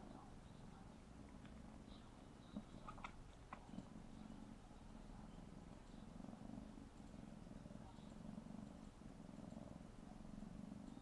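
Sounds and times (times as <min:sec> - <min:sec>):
kitten purring: 0:00.0 - 0:11.0.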